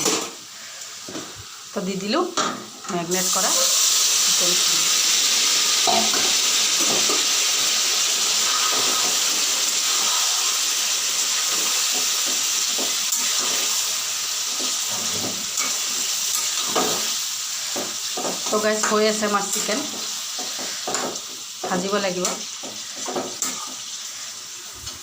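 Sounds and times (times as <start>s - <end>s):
chicken sizzling in hot oil: 2.9s - 25.0s.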